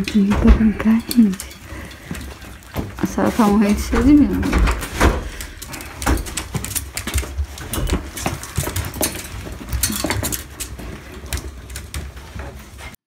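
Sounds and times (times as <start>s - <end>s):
wire playpen rattling: 0.0s - 12.9s.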